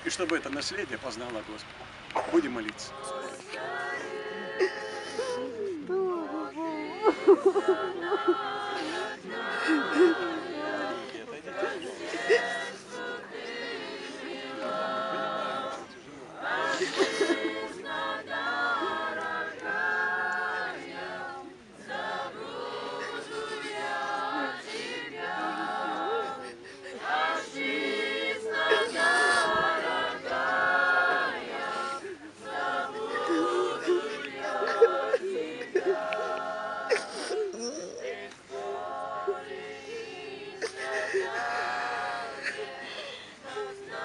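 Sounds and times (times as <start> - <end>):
group singing a hymn unaccompanied: 2.2 - 44.0.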